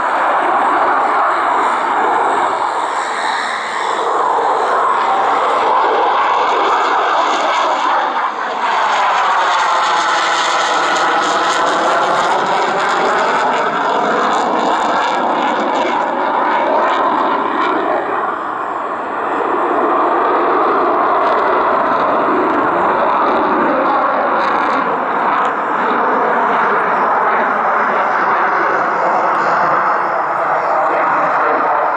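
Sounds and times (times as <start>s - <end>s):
jet fighter passing: 0.0s - 31.9s.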